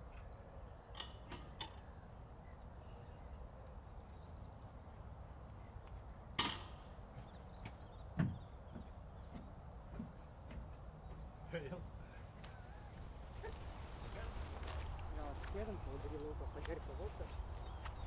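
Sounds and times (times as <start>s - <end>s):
small birds singing: 0.0s - 18.0s.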